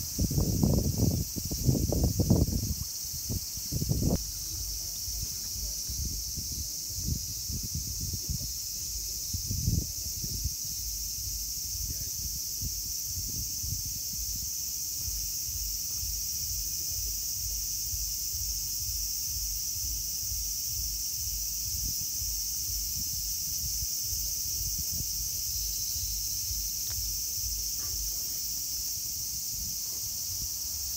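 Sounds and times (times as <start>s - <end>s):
high-pitched insect chorus: 0.0s - 30.9s.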